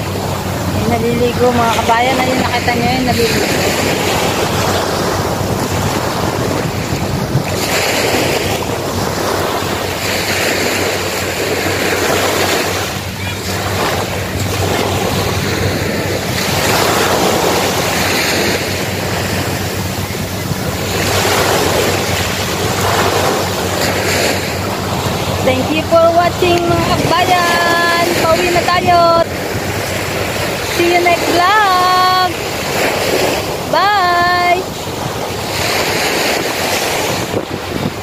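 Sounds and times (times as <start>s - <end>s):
small waves washing on sand: 0.0s - 38.0s
wind rumbling on microphone: 0.0s - 38.0s.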